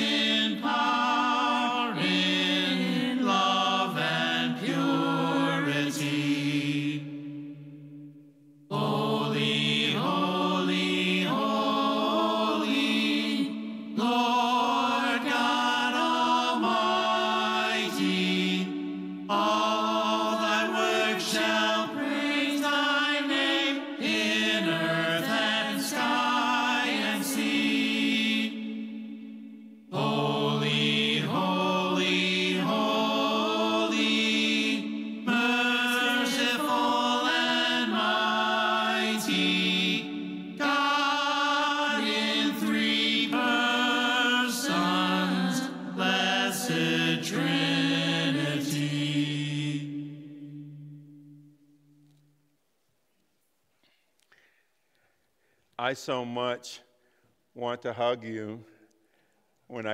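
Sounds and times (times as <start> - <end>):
people singing worship song: 0.0 - 52.3.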